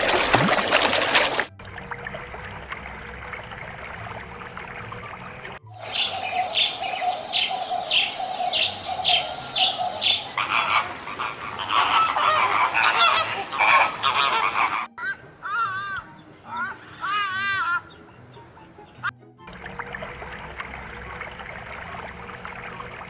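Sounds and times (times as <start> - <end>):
waterfowl honking: 0.0 - 23.0.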